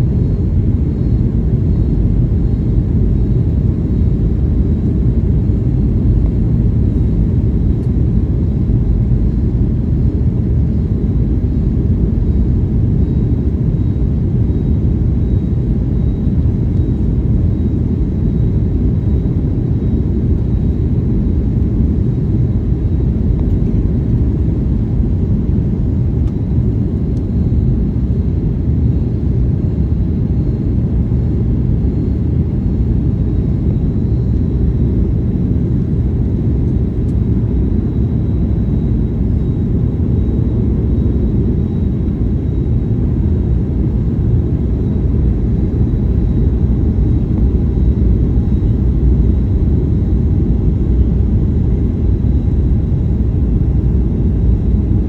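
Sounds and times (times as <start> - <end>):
airplane cabin engine rumble: 0.0 - 55.0
faint high whine: 0.0 - 55.0.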